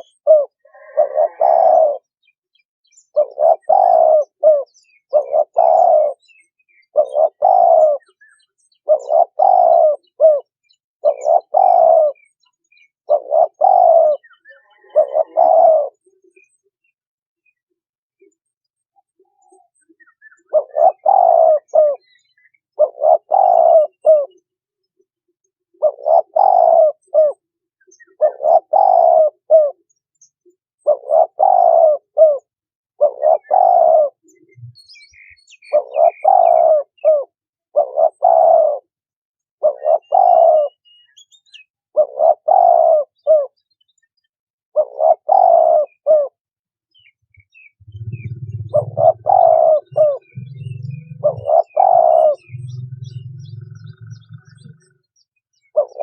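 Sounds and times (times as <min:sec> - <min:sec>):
dove cooing: 0:00.0 - 0:02.2, 0:03.0 - 0:16.5, 0:19.2 - 0:24.4, 0:25.7 - 0:29.9, 0:30.8 - 0:39.0, 0:39.6 - 0:40.9, 0:42.0 - 0:43.6, 0:44.8 - 0:46.4, 0:47.0 - 0:56.0.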